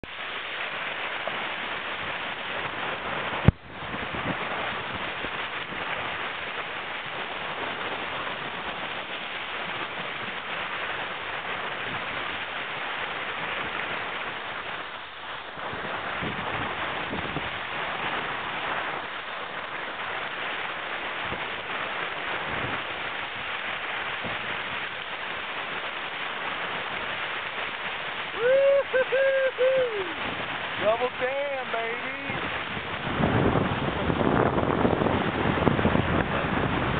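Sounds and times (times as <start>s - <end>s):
water splashing past hull: 0.0s - 36.9s
wind on microphone: 0.0s - 36.9s.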